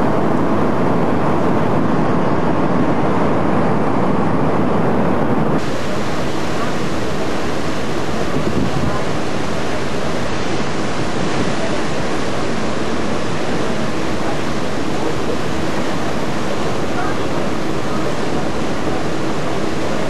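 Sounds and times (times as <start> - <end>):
wind on microphone: 0.0 - 16.9
sea water rushing: 0.0 - 20.0.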